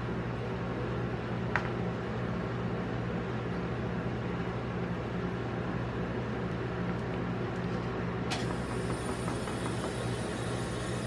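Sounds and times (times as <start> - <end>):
refrigeration unit humming: 0.0 - 11.0.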